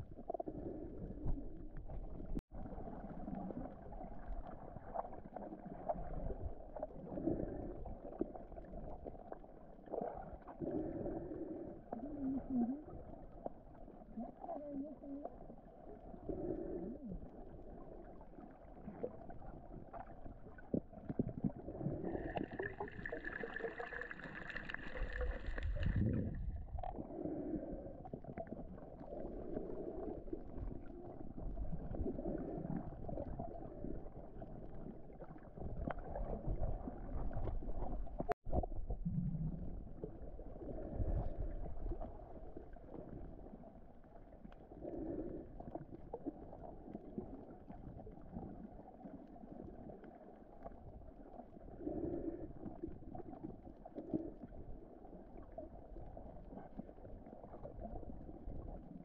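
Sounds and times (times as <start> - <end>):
underwater water churning: 0.0 - 59.0.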